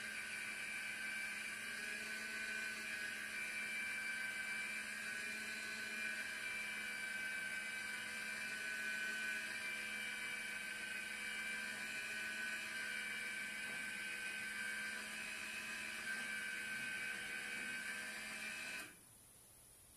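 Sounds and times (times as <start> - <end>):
motorised actuator whirring: 0.0 - 19.0.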